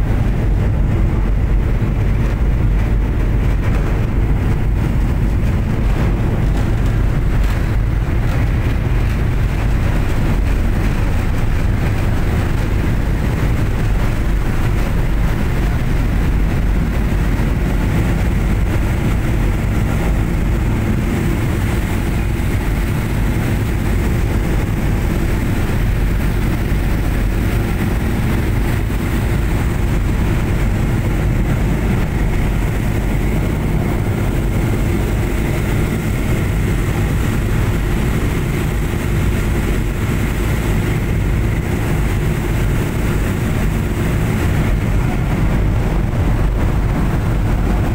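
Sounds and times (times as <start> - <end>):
ship engines droning: 0.0 - 47.9
wake water rushing: 0.0 - 47.9.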